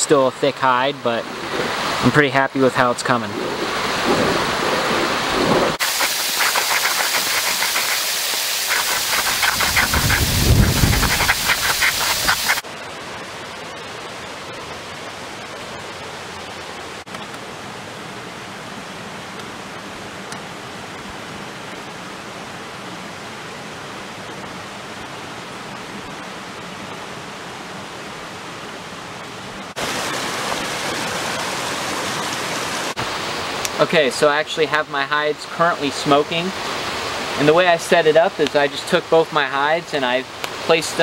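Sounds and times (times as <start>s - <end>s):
creek water rushing: 0.0s - 41.0s.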